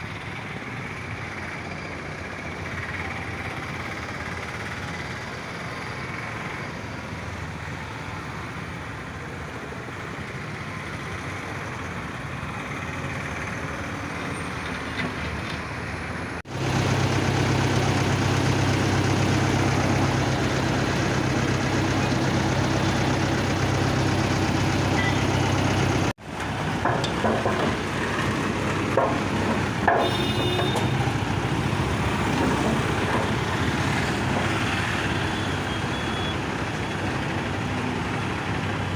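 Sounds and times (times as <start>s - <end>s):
diesel road roller engine: 0.0s - 38.9s.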